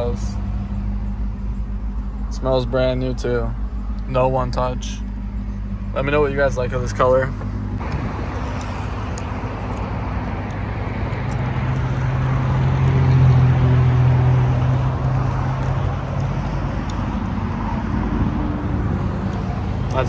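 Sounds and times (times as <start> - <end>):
low engine drone: 0.0 - 20.0
traffic noise: 0.0 - 20.0.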